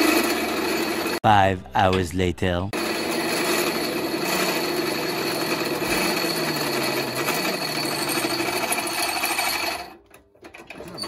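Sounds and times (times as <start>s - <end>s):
drill press cutting metal: 0.0s - 1.2s, 2.8s - 11.0s.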